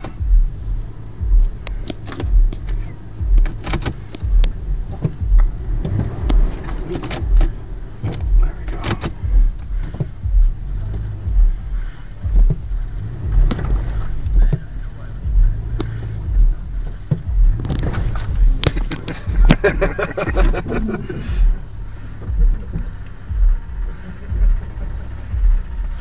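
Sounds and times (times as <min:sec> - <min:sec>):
deep thumps: 0:00.0 - 0:26.0
low engine rumble: 0:00.0 - 0:26.0
vehicle body knocking and rattling: 0:00.0 - 0:26.0.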